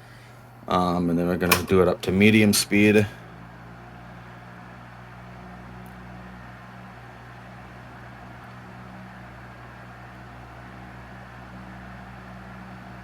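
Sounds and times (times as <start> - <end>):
electric fan running: 0.0 - 13.0.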